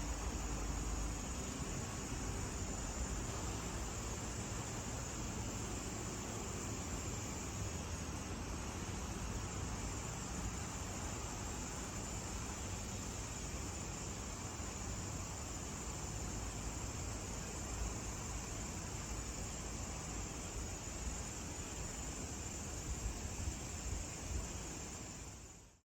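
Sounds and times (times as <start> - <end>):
even hiss: 0.0 - 25.8
insect chorus: 0.0 - 25.8.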